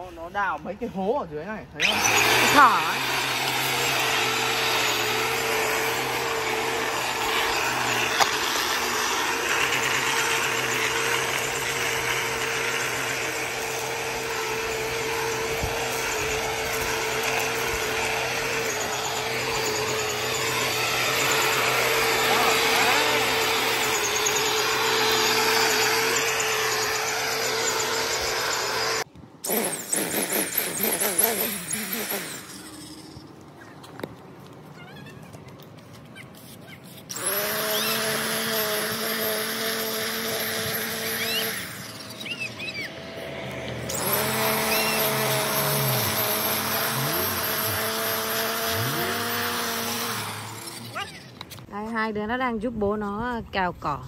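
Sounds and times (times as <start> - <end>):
electric string trimmer running: 1.7 - 34.1, 37.0 - 51.8.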